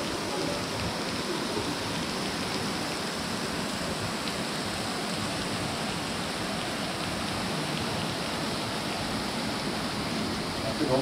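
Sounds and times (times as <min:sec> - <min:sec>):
waterfall splashing onto rocks: 0:00.0 - 0:11.0.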